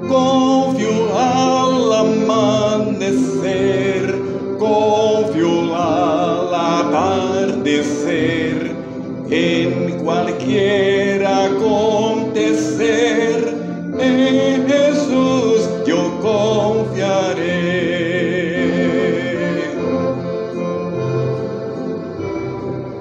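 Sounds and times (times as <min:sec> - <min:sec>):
hymn singing with vibrato: 0:00.0 - 0:22.8
instrumental accompaniment: 0:00.0 - 0:23.0.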